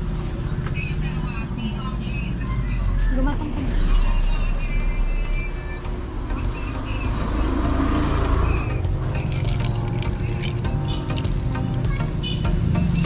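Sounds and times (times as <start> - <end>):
faint music: 0.0 - 13.0.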